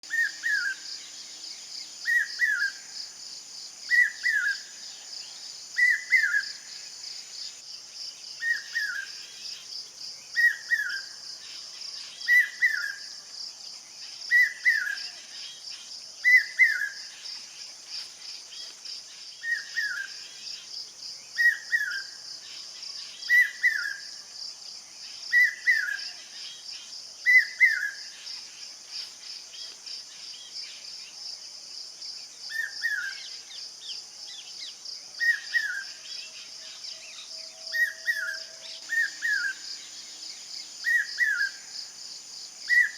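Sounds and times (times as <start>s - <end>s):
high insect drone: 0.1s - 42.9s.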